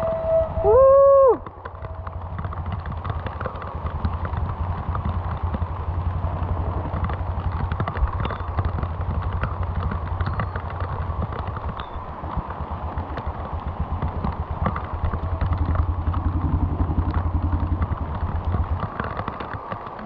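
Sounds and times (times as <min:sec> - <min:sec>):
steady low rumble: 0:00.0 - 0:20.0
rain drops crackling: 0:00.6 - 0:20.0.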